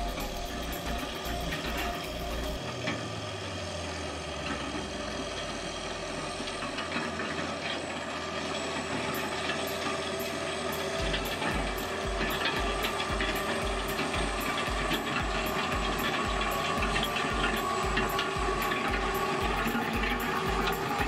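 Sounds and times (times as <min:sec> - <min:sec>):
machinery clatter: 0:00.0 - 0:21.0
tractor engine running: 0:00.0 - 0:21.0.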